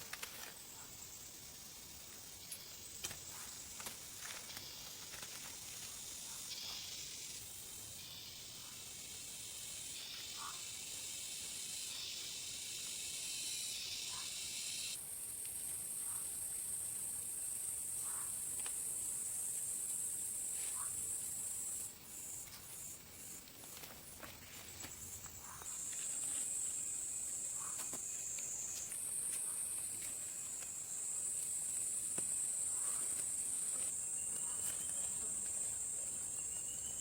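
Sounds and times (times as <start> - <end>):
cicadas buzzing: 0.0 - 37.0.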